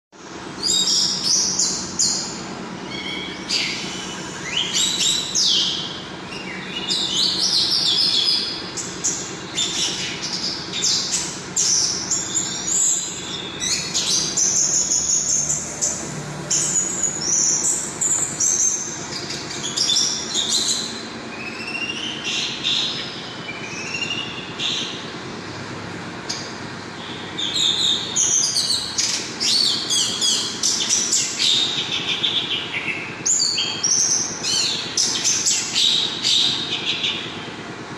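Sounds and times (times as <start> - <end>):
steady low hum: 0.2 - 37.9.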